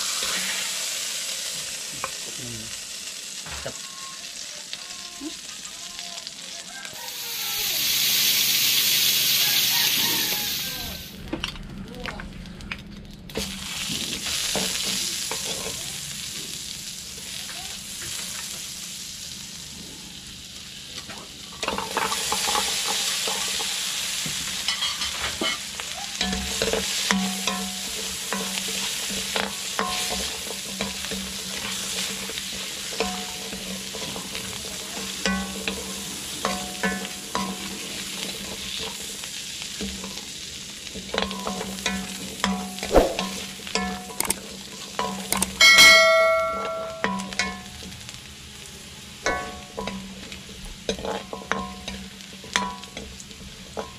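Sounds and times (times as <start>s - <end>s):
butter and garlic sizzling: 0.0s - 11.3s, 13.3s - 53.9s.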